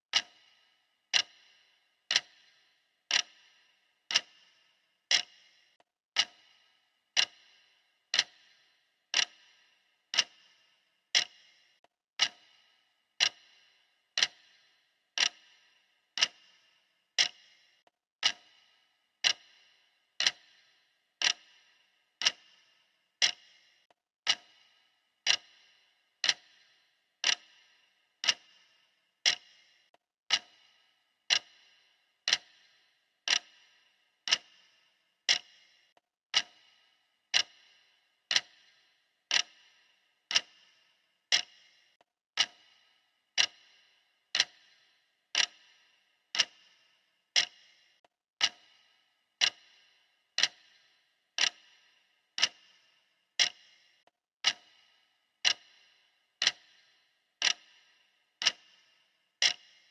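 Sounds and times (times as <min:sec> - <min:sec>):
clock ticking: 0:00.1 - 0:59.9.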